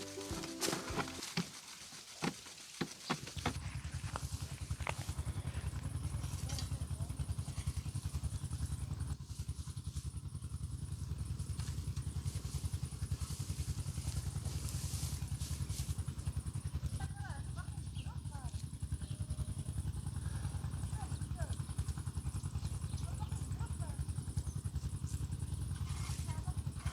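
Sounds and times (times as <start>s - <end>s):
engine running with fast putter: 0.0s - 26.9s.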